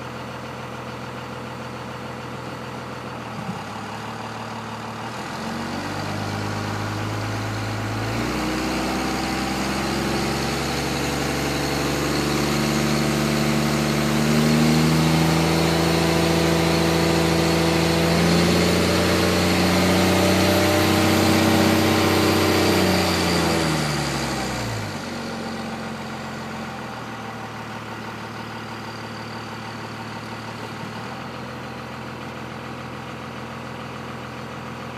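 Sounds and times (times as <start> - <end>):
diesel engine revving: 2.1 - 34.9.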